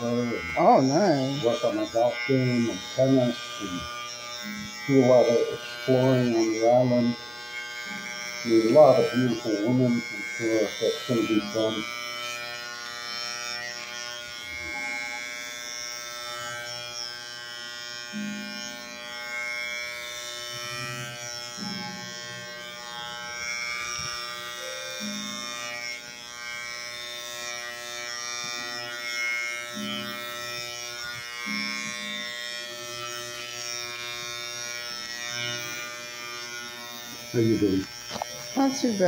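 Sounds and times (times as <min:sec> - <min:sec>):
electric hair clipper buzzing: 0:00.0 - 0:39.0.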